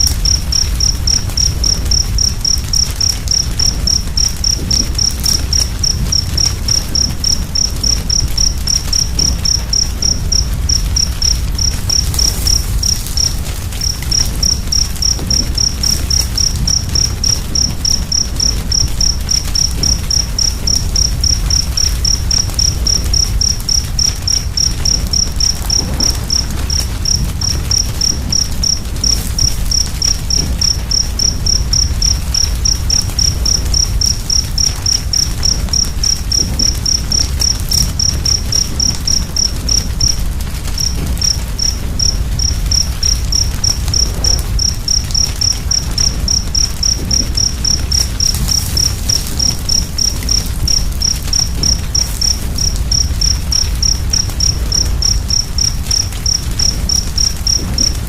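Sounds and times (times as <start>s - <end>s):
cricket chirping: 0.0s - 58.0s
wood fire crackling: 0.0s - 58.0s.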